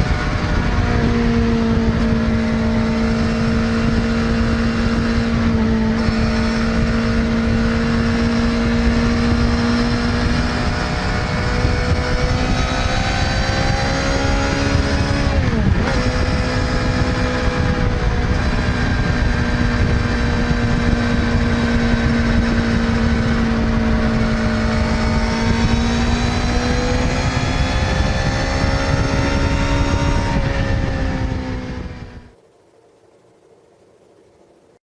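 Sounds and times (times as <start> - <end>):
motorcycle engine revving high: 0.0 - 32.4.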